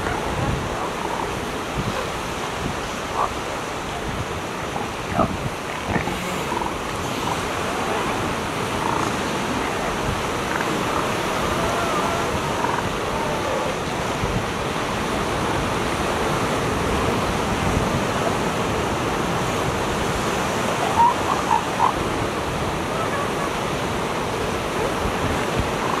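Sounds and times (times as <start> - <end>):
surf washing on beach: 0.0 - 26.0.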